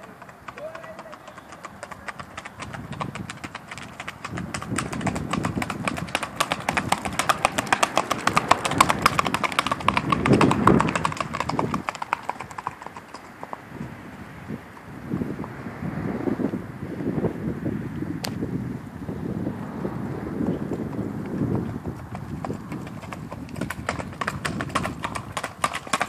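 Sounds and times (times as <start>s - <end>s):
hoofbeats on gravel road: 0.0s - 15.6s, 19.6s - 26.0s.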